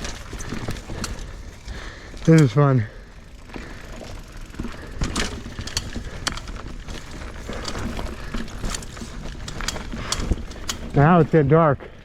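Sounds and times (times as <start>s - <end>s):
bike clicks and knocks: 0.0s - 12.0s
bike tyres on wet dirt: 0.0s - 12.0s.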